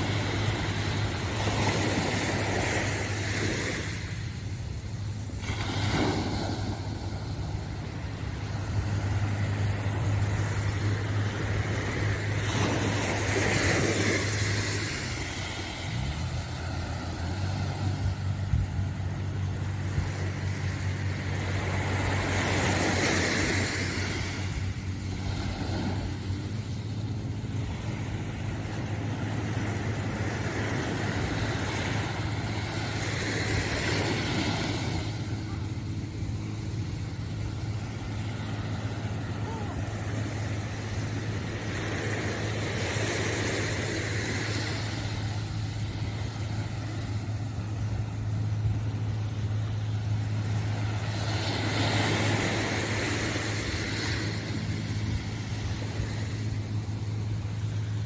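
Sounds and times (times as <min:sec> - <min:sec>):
low engine hum: 0:00.0 - 0:58.0
small waves washing on sand: 0:00.0 - 0:58.0.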